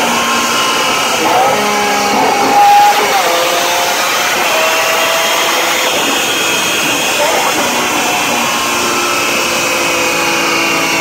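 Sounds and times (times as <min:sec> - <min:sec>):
high-pitched engine wail: 0:00.0 - 0:11.0.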